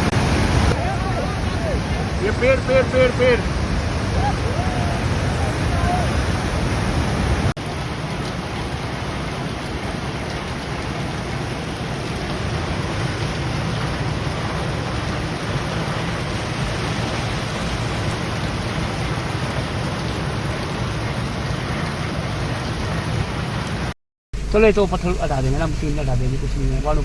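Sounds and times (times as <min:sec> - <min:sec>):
water rushing with low rumble: 0:00.0 - 0:27.0.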